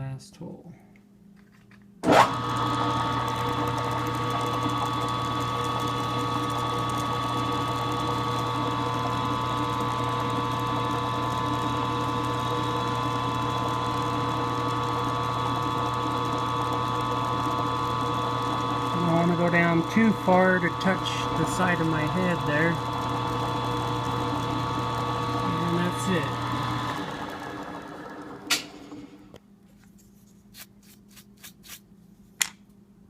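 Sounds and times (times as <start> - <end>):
milling machine spindle whining: 2.3 - 29.3.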